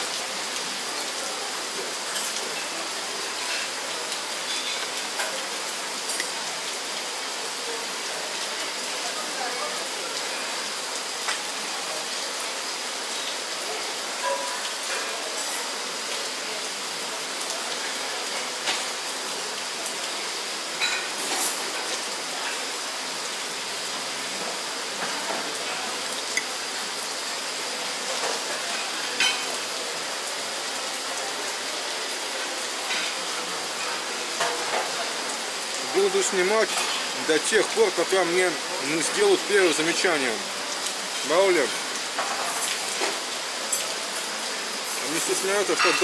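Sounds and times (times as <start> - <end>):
rain falling: 0.0 - 46.0.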